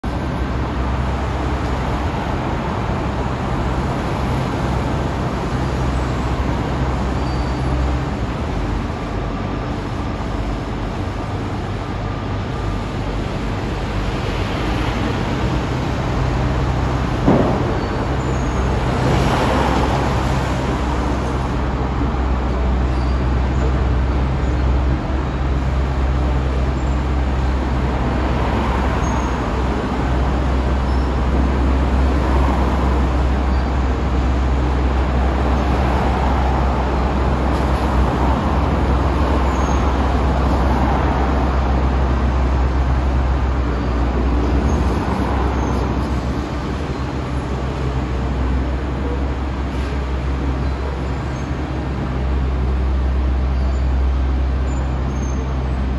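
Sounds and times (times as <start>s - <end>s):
heavy diesel engines running: 0.0s - 55.9s
cars passing: 9.8s - 55.9s.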